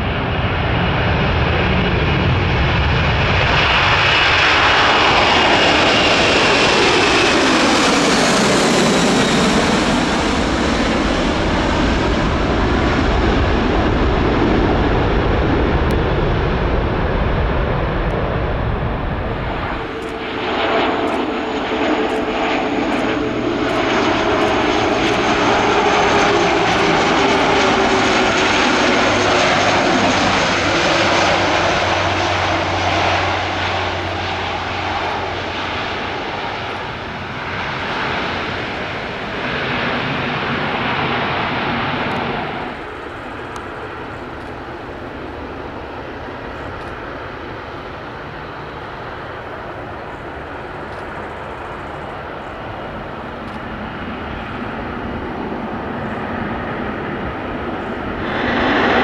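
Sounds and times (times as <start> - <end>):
jet taking off: 0.0 - 59.0
turboprop propeller hum: 0.0 - 59.0.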